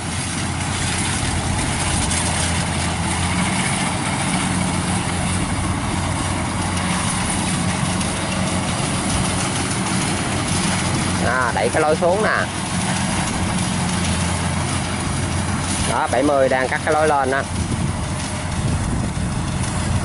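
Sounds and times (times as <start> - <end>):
combine harvester engine hum: 0.0 - 20.0.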